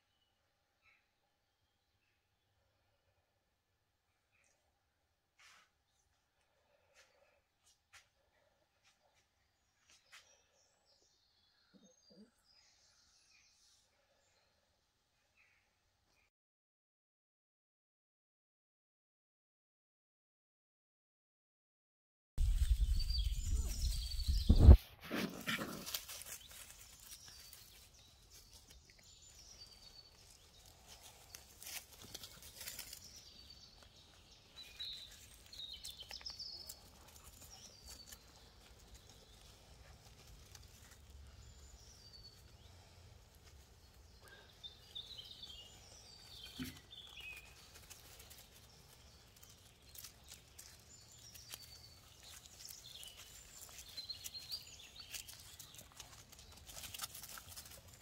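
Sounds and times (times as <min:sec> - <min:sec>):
small birds chirping: 0:04.0 - 0:16.3, 0:22.4 - 0:58.0.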